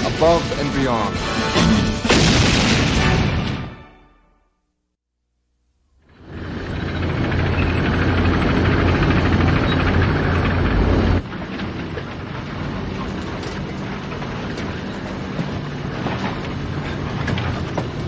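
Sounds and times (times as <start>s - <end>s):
tank engine and tracks rumbling: 0.0s - 4.0s, 6.0s - 18.0s.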